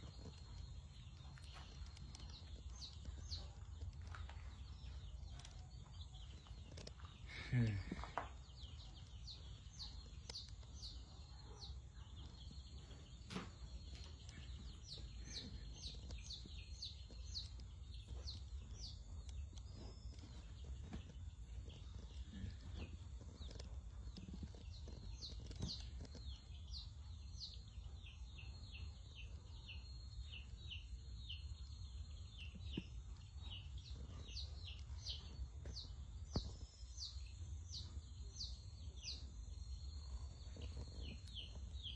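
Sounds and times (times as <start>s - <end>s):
chicks peeping: 0.0s - 41.9s.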